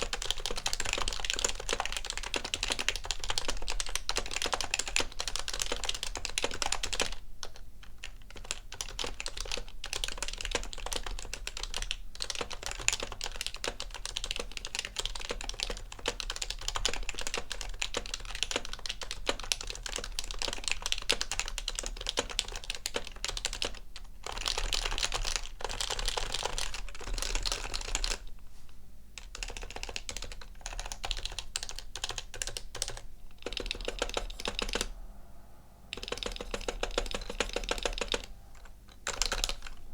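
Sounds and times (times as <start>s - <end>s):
keyboard typing: 0.0s - 28.3s, 29.2s - 35.0s, 35.9s - 39.8s.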